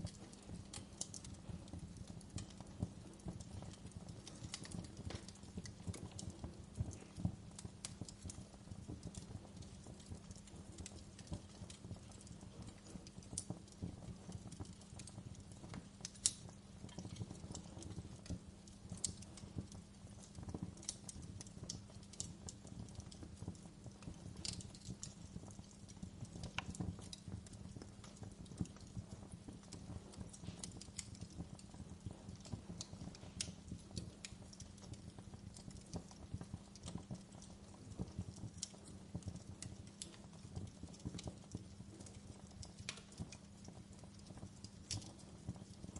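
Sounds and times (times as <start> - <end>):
low steady hum: 0.0 - 45.9
wood fire crackling: 0.0 - 45.9.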